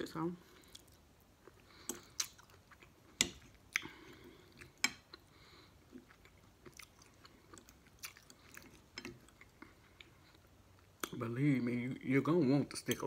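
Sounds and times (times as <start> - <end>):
person chewing food: 0.5 - 11.2.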